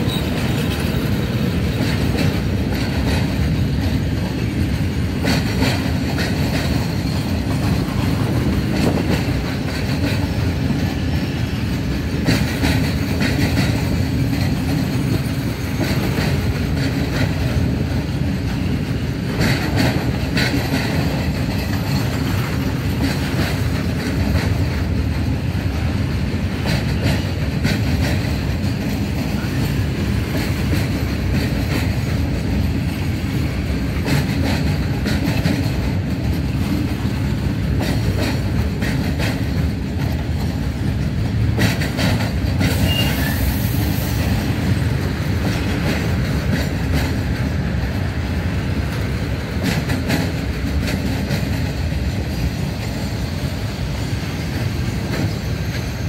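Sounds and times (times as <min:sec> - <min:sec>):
freight train rumbling: 0:00.0 - 0:56.0
wheels clacking over rail joints: 0:00.0 - 0:56.0.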